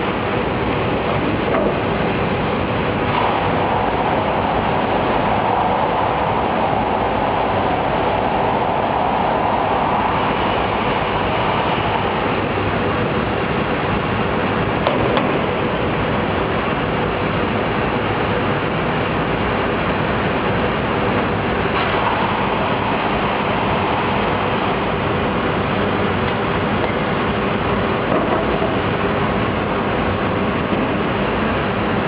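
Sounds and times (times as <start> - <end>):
furnace and ventilation noise: 0.0 - 32.0.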